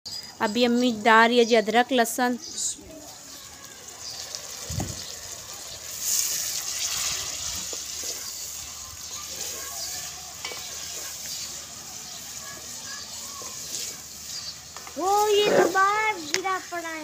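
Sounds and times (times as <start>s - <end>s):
paste sizzling in hot oil: 2.8s - 17.0s.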